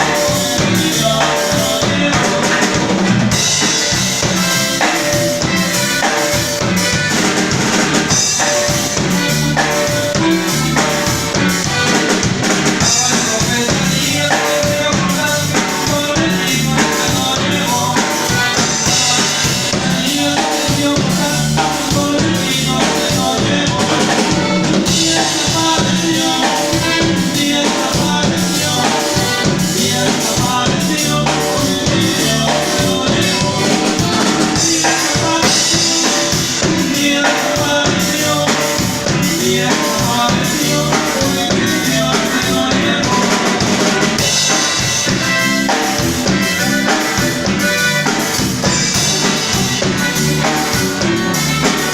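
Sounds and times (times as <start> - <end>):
bass drum: 0.0 - 51.9
music with drum-kit beat: 0.0 - 51.9.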